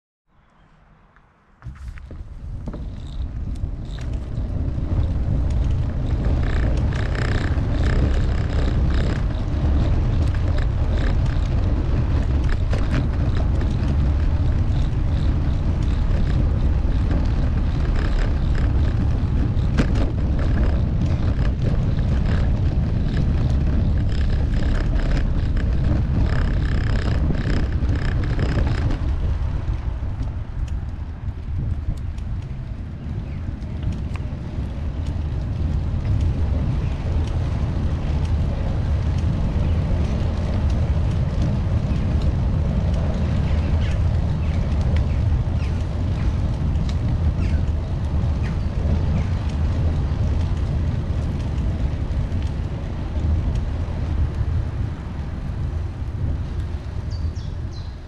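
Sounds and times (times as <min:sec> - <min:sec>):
wind rumble on microphone: 0:00.5 - 0:58.0
bicycle rattling: 0:01.6 - 0:58.0.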